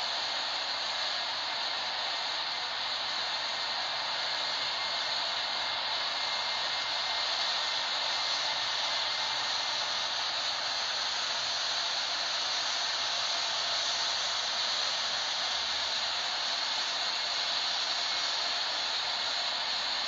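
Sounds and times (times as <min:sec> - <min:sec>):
jet airliner engine rushing: 0:00.0 - 0:20.0.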